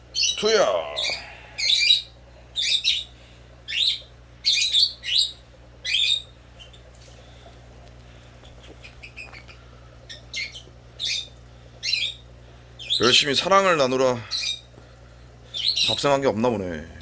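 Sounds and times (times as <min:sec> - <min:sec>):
steady low hum: 0:00.0 - 0:17.0
small bird chirping: 0:00.1 - 0:06.9, 0:08.4 - 0:14.7, 0:15.5 - 0:16.2.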